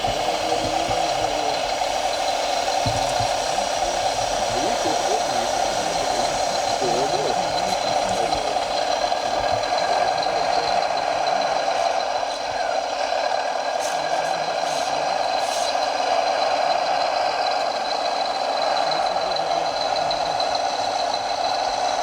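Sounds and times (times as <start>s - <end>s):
model truck motor humming: 0.0s - 22.0s.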